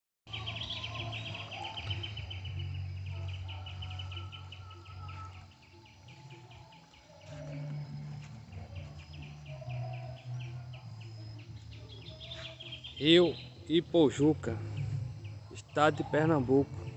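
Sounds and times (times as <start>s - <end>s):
insects chirping in a pulsed trill: 0.3s - 16.9s.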